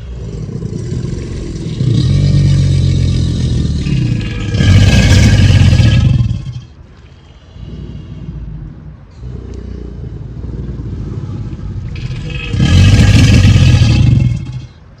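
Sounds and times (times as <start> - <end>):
deep rumbling growl-like bellow: 0.0 - 6.9, 7.6 - 15.0.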